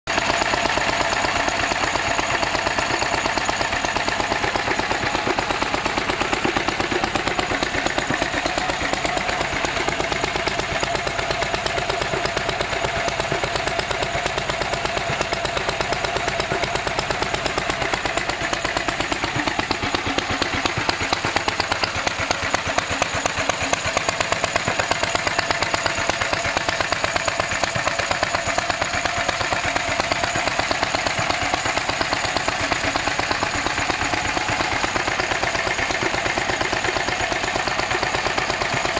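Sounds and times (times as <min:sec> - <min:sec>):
stationary engine running: 0:00.1 - 0:38.9.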